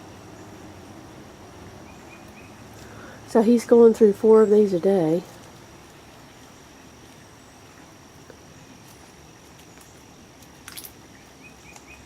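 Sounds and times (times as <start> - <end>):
faint low background noise: 0.0 - 12.0.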